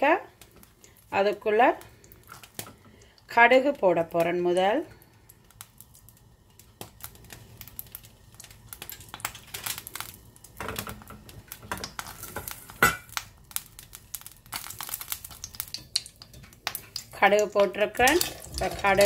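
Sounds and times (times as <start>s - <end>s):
hot fat crackling in a pan: 0.0s - 19.0s.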